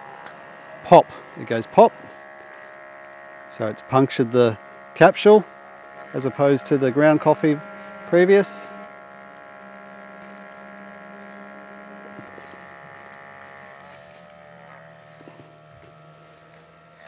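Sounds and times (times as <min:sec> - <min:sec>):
espresso machine pump humming: 0:00.0 - 0:17.0.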